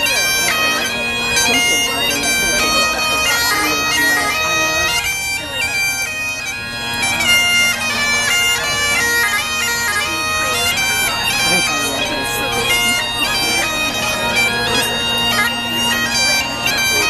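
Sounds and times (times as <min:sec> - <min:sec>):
bagpipe playing: 0:00.0 - 0:17.0.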